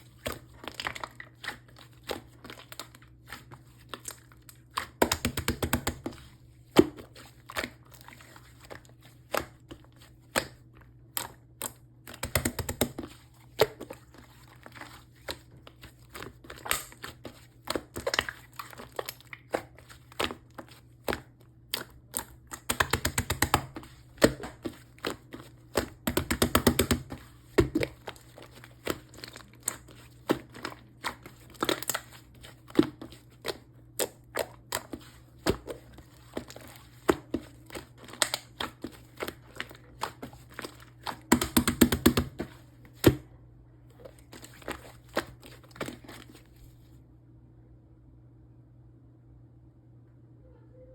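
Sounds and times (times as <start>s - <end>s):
slime squished by hand: 0.0s - 43.4s.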